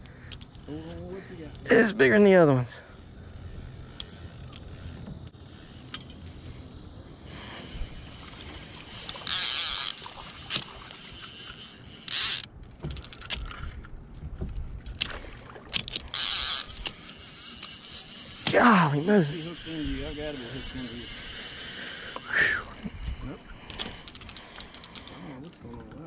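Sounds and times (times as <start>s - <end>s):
light reel clicks: 0.0s - 1.7s, 2.6s - 6.7s, 7.3s - 14.0s, 14.8s - 25.7s
fishing reel drag buzzing: 0.0s - 13.9s, 14.9s - 25.5s.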